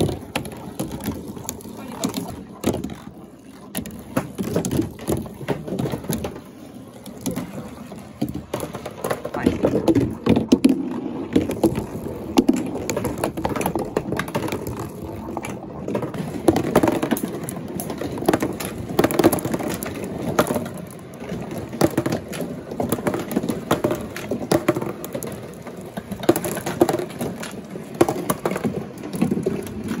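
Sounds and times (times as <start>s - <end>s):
marbles rolling on cardboard: 0.0s - 30.0s.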